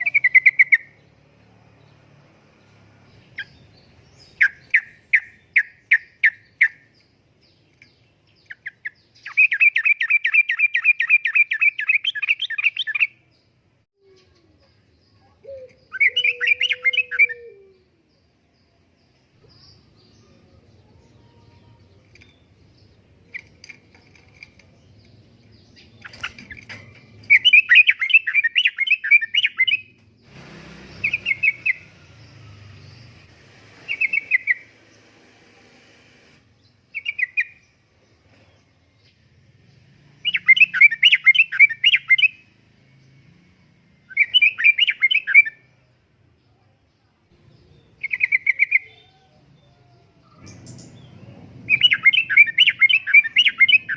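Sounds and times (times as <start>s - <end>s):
bulbul singing: 0.0s - 35.1s, 36.5s - 53.9s.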